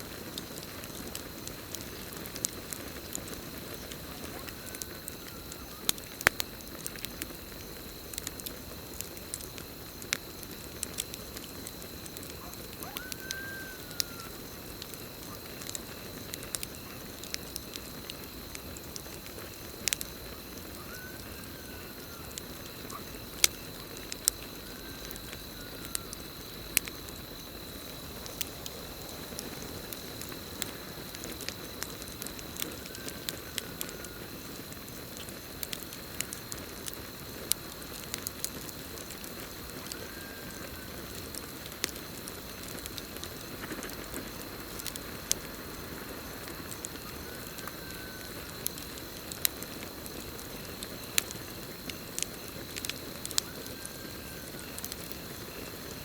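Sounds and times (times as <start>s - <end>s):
campfire crackling and popping: 0.0s - 56.0s
crickets trilling: 0.0s - 56.0s.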